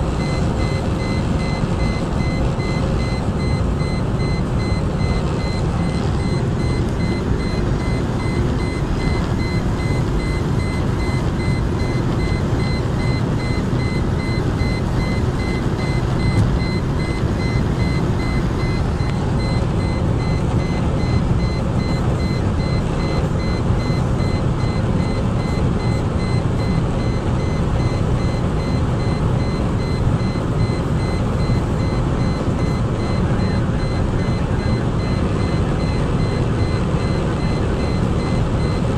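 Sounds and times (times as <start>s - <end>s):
car interior rumble: 0.0s - 38.9s.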